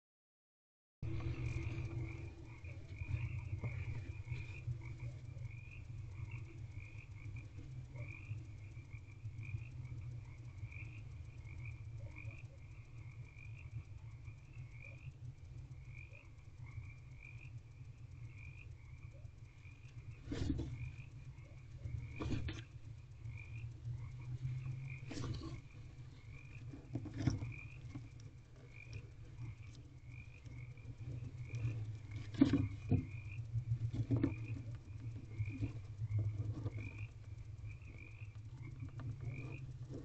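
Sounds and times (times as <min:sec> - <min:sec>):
frogs croaking: 0:01.0 - 0:40.0
steady low hum: 0:01.0 - 0:40.0.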